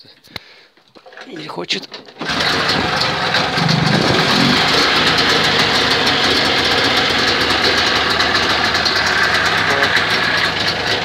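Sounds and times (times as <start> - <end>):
two-stroke engine running: 2.1 - 11.0.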